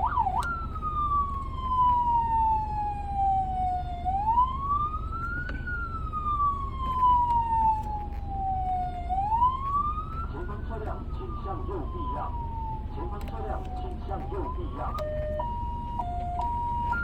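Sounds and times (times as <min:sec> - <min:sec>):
ambulance siren wailing: 0:00.0 - 0:17.0
low steady rumble: 0:00.0 - 0:17.0.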